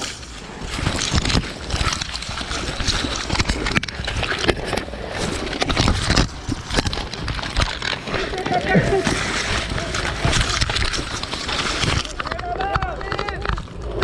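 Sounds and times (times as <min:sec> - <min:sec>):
footsteps: 0:00.0 - 0:14.0
gear rustling: 0:00.0 - 0:14.0.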